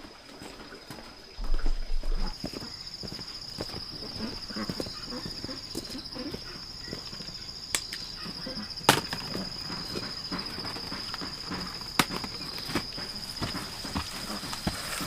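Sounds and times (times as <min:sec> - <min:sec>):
high-pitched insect trill: 0:02.3 - 0:15.0.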